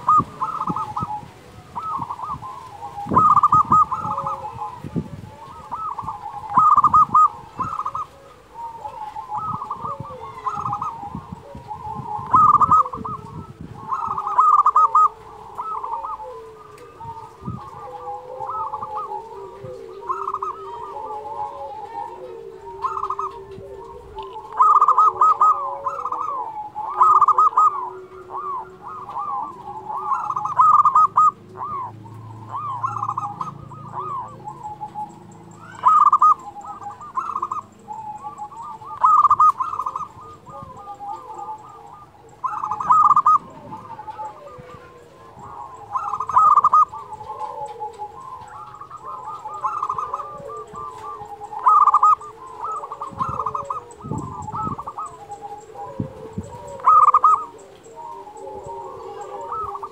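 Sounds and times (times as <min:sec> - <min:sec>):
dove cooing in staccato phrases: 0:00.0 - 0:59.9
soft low cooing: 0:00.0 - 0:59.9.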